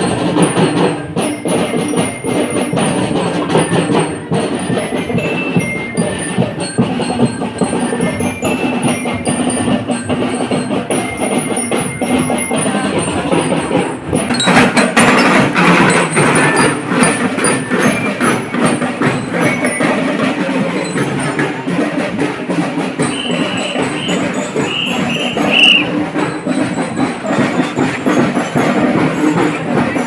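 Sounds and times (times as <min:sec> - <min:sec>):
marching band playing: 0:00.0 - 0:30.0
rapid drum strokes: 0:00.0 - 0:30.0.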